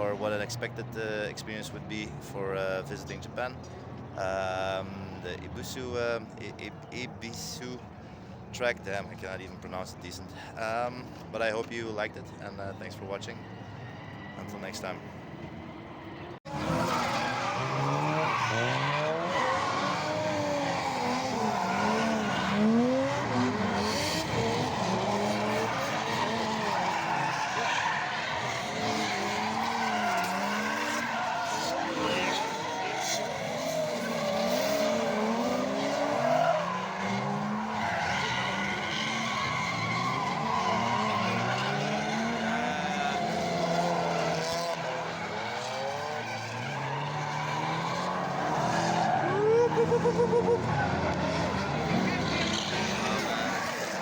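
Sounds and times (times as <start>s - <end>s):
car engines revving: 0.0s - 54.0s
tyres squealing and skidding: 8.6s - 54.0s.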